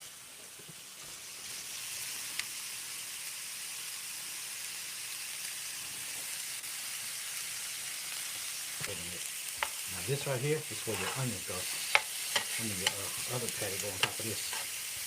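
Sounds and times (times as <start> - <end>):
burger patties sizzling: 0.0 - 15.0.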